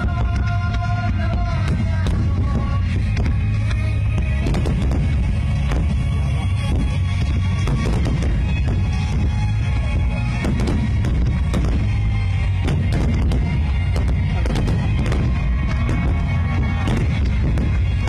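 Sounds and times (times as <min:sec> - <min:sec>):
fireworks bursting: 0:00.0 - 0:18.0
loud music: 0:00.0 - 0:18.0.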